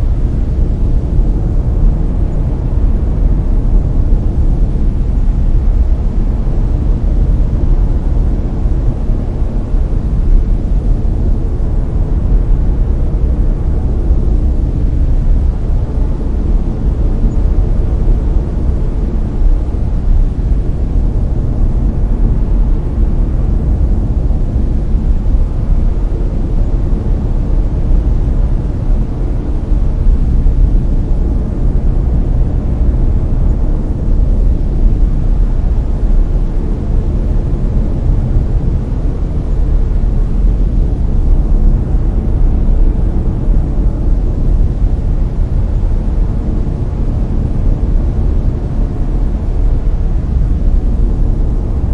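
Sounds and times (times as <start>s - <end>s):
brown noise rumbling hiss: 0.0s - 51.9s.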